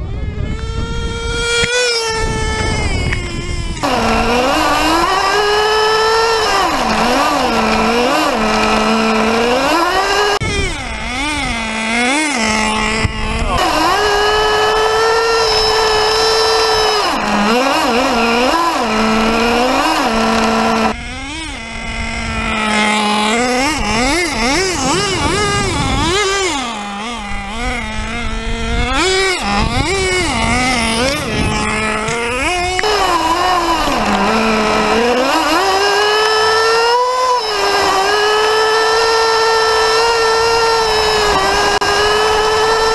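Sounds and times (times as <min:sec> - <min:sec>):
model car engine revving: 0:00.0 - 0:42.9.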